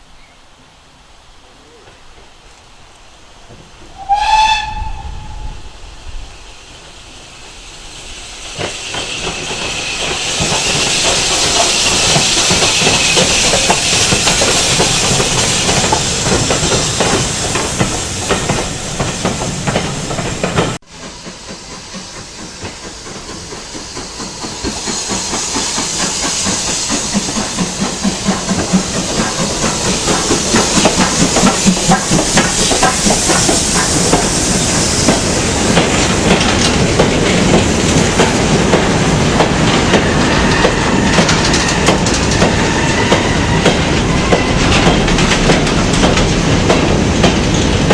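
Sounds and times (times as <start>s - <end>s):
steam locomotive hissing: 3.2s - 47.9s
train rhythmic beat: 8.6s - 47.9s.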